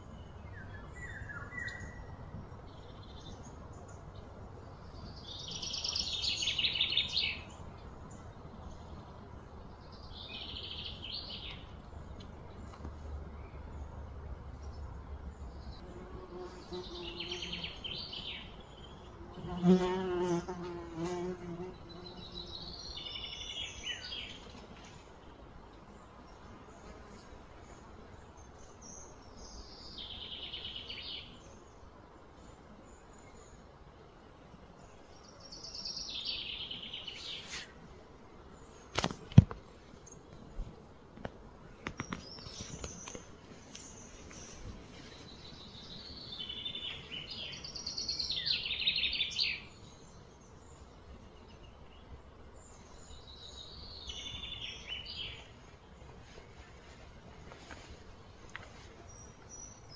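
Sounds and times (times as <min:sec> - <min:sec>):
low outdoor hum: 0:00.0 - 0:59.9.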